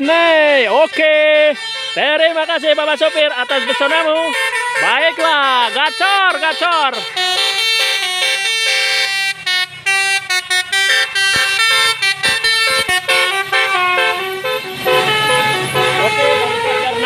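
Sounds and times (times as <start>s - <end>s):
bus engine rumble: 0.0s - 17.0s
musical bus horn melody: 0.0s - 17.0s.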